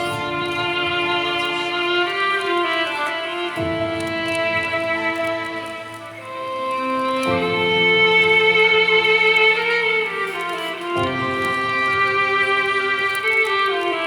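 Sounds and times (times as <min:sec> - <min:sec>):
musical accompaniment: 0:00.0 - 0:14.0
violin playing long notes: 0:00.0 - 0:14.0.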